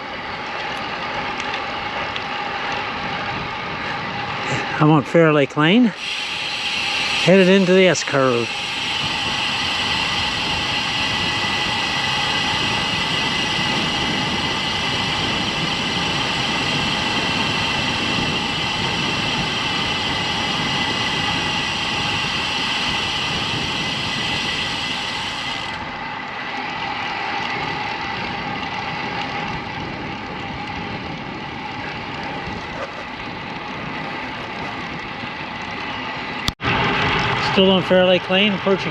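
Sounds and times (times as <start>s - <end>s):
bicycle tyre noise: 0.0s - 38.9s
wind rushing over microphone: 0.0s - 38.9s.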